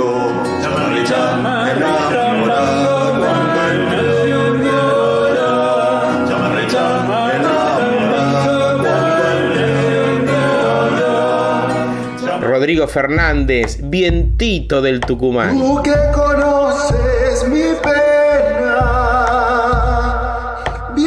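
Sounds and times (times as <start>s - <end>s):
men singing folk song: 0.0s - 13.8s, 15.4s - 21.0s
acoustic guitar: 0.0s - 21.0s
keyboard: 0.0s - 21.0s.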